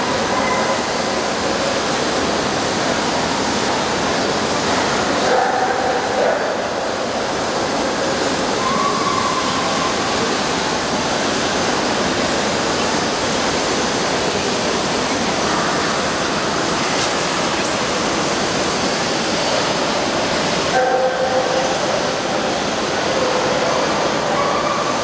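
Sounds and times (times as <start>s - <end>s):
crowd roar in a hall: 0.0s - 25.0s.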